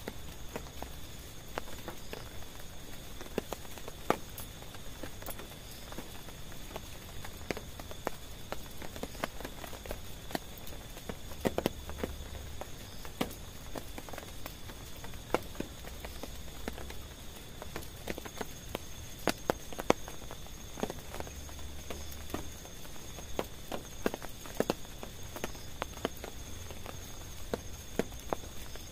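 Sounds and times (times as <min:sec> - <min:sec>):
raindrops tapping on a tent: 0:00.0 - 0:28.9
soft hiss of rain: 0:00.0 - 0:28.9.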